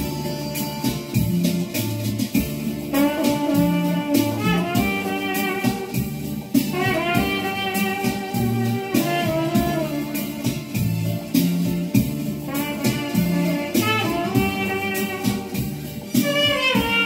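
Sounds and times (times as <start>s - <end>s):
backing track with steady beat: 0.0s - 17.0s
trumpet playing slow melody: 2.6s - 17.0s.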